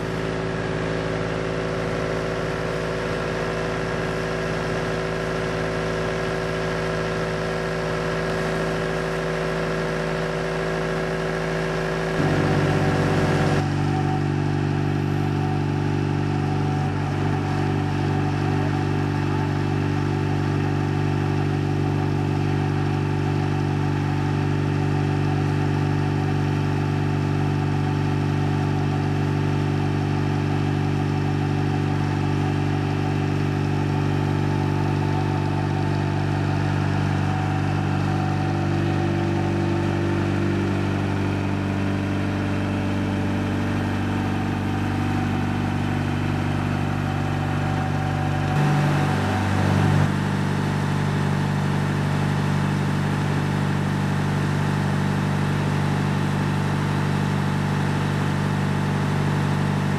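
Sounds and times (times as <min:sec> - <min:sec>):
excavator diesel engine running: 0:00.0 - 0:28.7, 0:31.2 - 0:55.2.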